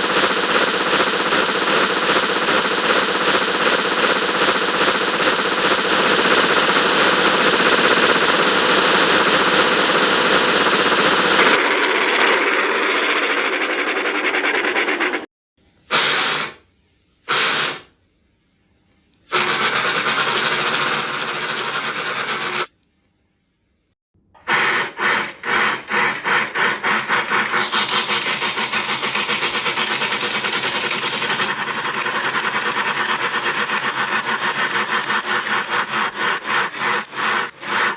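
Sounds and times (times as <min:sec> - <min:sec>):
cartoon steam locomotive chugging: 0:00.0 - 0:18.0, 0:19.2 - 0:22.7, 0:24.3 - 0:37.9.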